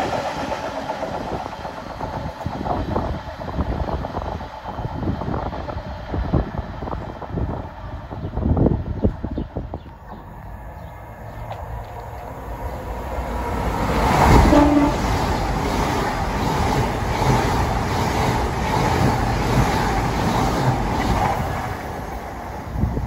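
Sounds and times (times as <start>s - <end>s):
train rumble passing: 0.0s - 23.0s.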